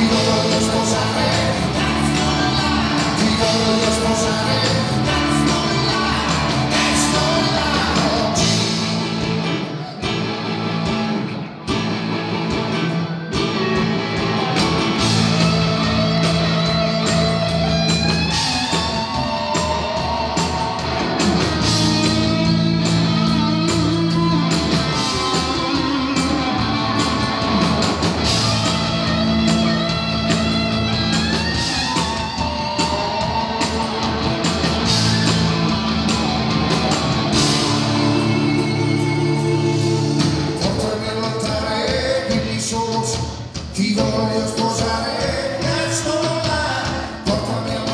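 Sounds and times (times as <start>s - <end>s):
lead electric guitar: 0.0s - 43.7s
rock band playing: 0.0s - 47.9s.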